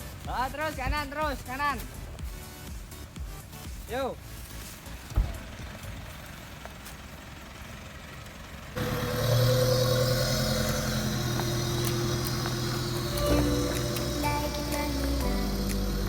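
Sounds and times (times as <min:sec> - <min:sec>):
suv engine running: 0:00.0 - 0:16.0.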